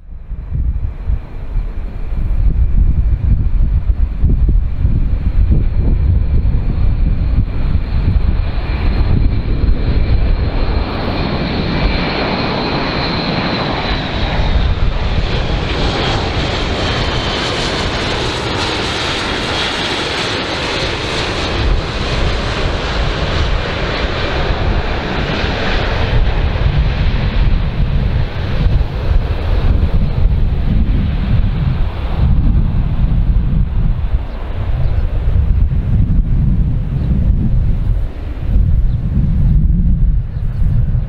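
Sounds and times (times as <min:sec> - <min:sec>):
high engine whine: 0:00.0 - 0:41.0
propeller and engine rush: 0:00.0 - 0:41.0
wind rumble on microphone: 0:00.0 - 0:41.0.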